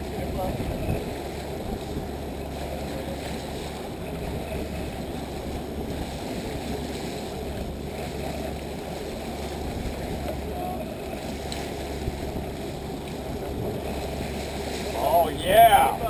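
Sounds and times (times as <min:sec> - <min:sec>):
boat engine droning: 0:00.0 - 0:16.0
waves: 0:00.0 - 0:16.0
wind: 0:00.0 - 0:16.0.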